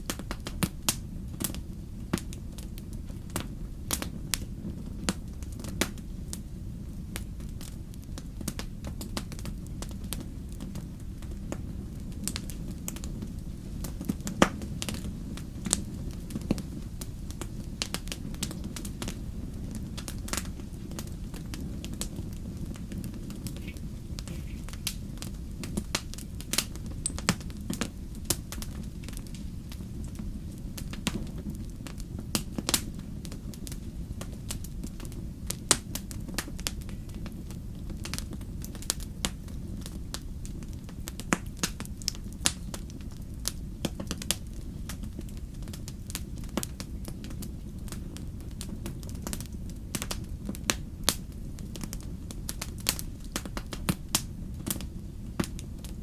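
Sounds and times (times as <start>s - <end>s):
campfire crackling and popping: 0.0s - 56.0s
low rumble of fire: 0.0s - 56.0s.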